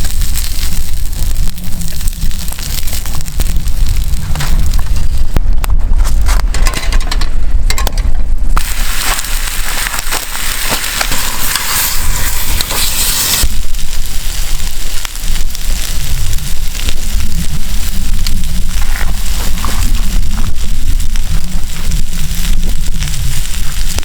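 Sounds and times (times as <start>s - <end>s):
dense steady hiss: 0.0s - 24.0s
low rumble: 0.0s - 24.0s
wood fire crackling and popping: 0.0s - 24.0s.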